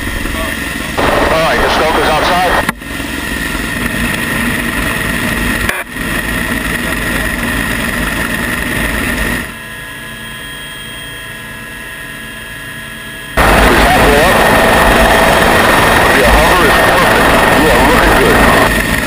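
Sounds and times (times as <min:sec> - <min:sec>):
helicopter hovering: 0:00.0 - 0:19.0
high whine: 0:00.0 - 0:19.0.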